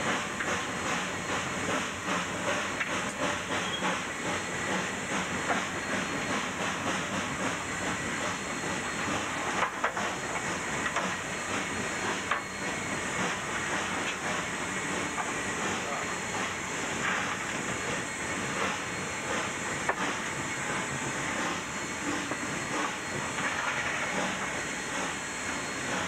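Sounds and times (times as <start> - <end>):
steam locomotive hiss and roar: 0.0 - 26.0.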